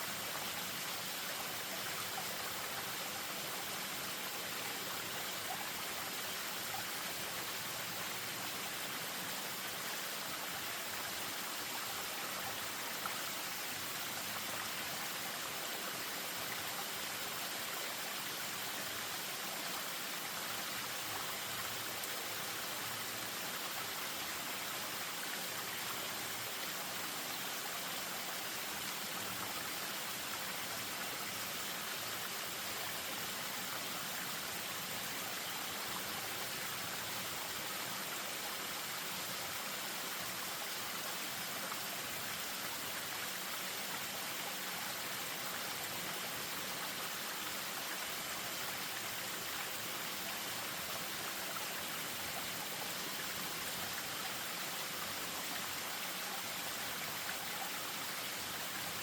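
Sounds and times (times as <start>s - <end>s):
stream running over small waterfall: 0.0s - 59.0s.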